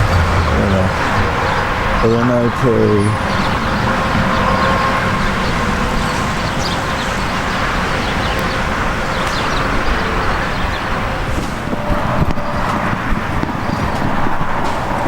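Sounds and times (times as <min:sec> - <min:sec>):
highway traffic: 0:00.0 - 0:15.0.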